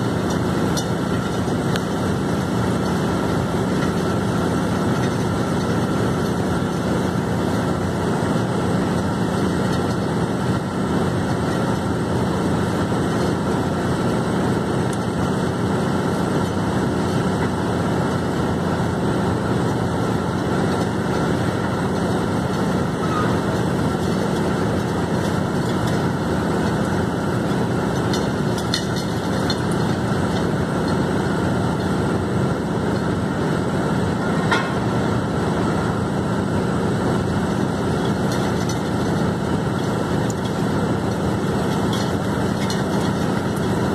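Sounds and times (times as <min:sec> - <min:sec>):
drilling rig hammering: 0:00.0 - 0:43.9.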